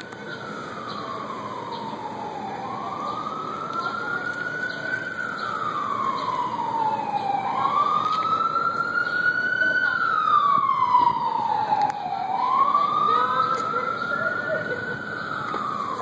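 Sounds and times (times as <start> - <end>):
emergency vehicle siren wailing: 0.0 - 16.0
street traffic noise: 0.0 - 16.0.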